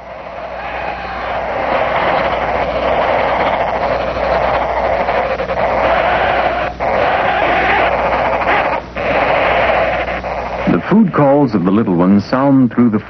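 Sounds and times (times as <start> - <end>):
nestlings begging calls: 0.0 - 12.6.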